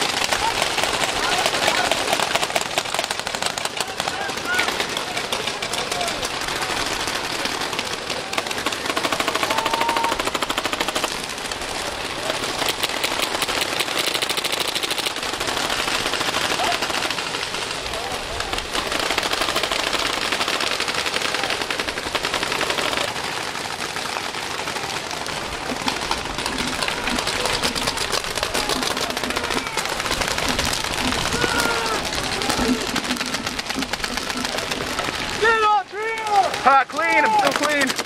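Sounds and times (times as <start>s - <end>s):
paintball markers firing rapidly: 0.0s - 38.0s.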